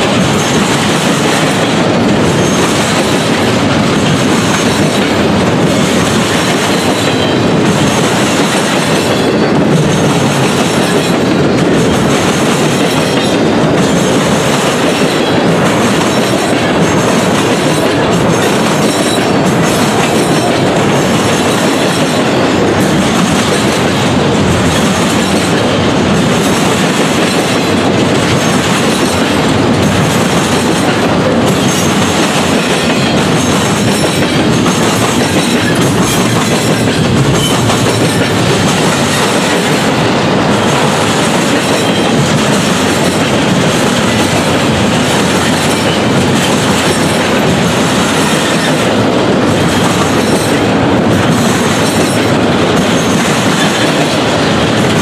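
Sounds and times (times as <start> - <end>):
freight train wheels rolling on rails: 0.0 - 55.0.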